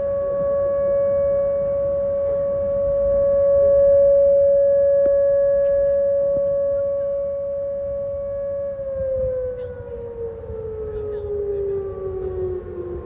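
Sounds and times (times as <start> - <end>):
warning siren steady buzzy tone: 0.0 - 13.0.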